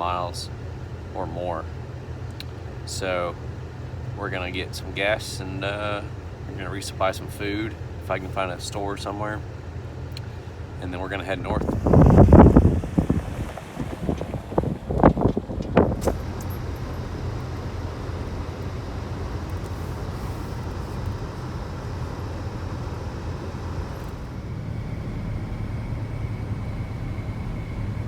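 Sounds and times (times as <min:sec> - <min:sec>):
car engine and road hum: 0:00.0 - 0:28.0
faint high whine: 0:00.0 - 0:28.0.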